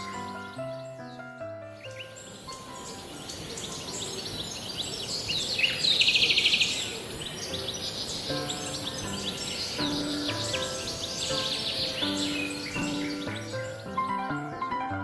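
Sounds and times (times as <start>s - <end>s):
soft music: 0.0s - 5.4s, 7.2s - 15.0s
songbirds chirping: 0.0s - 15.0s
steady background hiss: 0.0s - 15.0s
fast bird trill: 1.8s - 15.0s.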